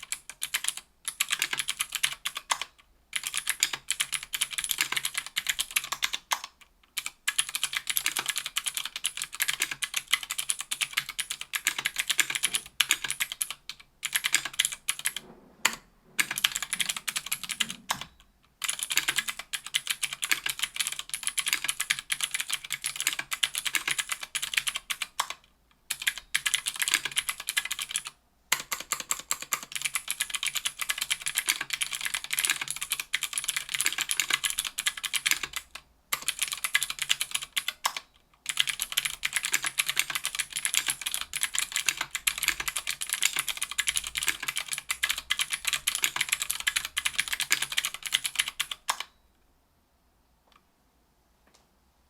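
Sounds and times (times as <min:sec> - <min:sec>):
clicky keyboard typing: 0:00.0 - 0:49.2.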